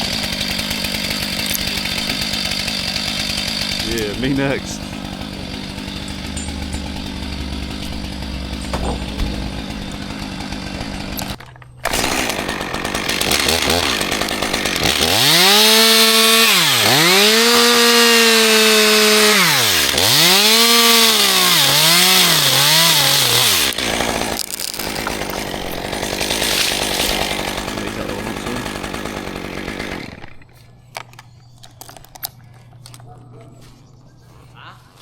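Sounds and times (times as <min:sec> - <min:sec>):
chainsaw revving: 0:00.0 - 0:30.5.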